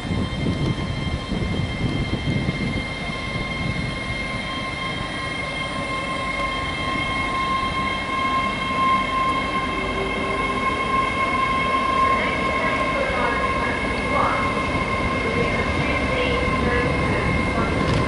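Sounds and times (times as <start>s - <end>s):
train traction whine: 0.0s - 18.0s
wheels rumbling on rails: 0.0s - 18.0s.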